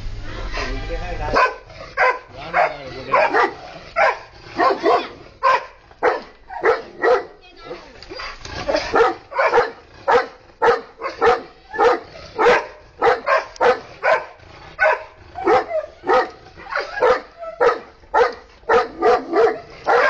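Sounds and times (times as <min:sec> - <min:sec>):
dog barking: 0:01.3 - 0:07.4, 0:08.6 - 0:20.0.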